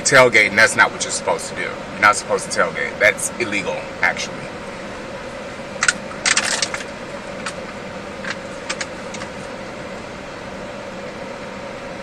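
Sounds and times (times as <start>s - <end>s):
air-conditioning blower: 0.0s - 12.0s
car interior hum: 0.0s - 12.0s.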